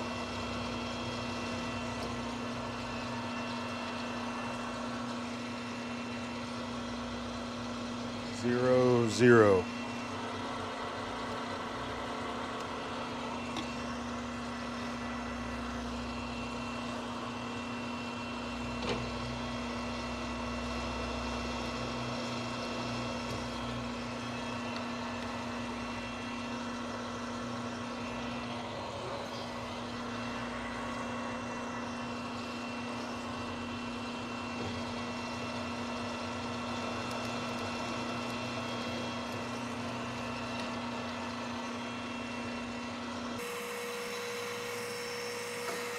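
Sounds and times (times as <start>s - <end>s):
faint machine whine: 0.0s - 45.9s
lathe machine hum: 0.0s - 45.9s.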